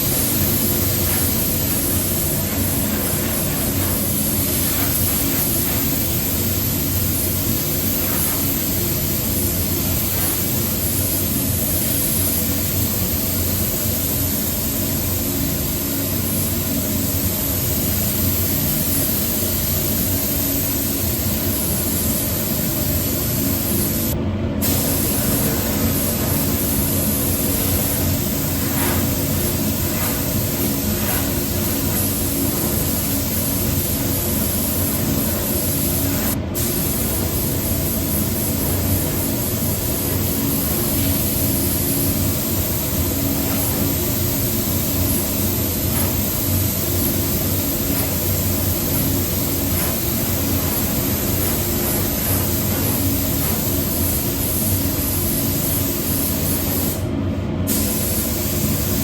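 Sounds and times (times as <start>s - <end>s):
paint spray gun hissing: 0.0s - 57.1s, 57.7s - 59.0s.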